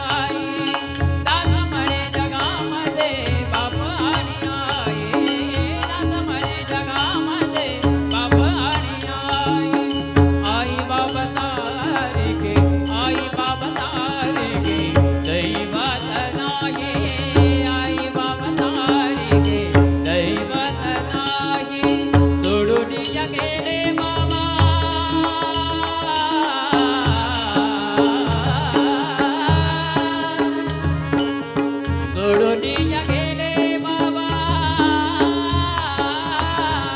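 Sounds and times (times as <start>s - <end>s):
devotional song melody: 0.0s - 36.9s.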